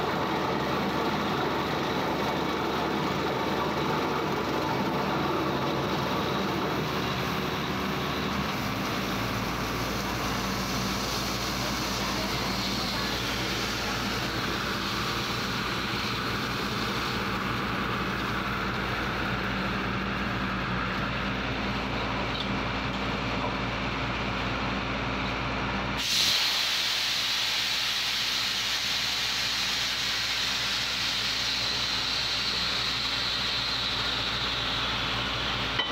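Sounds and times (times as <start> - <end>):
drilling rig running: 0.0 - 24.9, 27.4 - 35.9.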